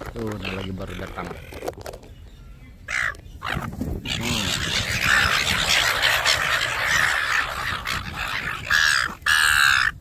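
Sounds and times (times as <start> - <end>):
birds squawking: 0.0 - 10.0.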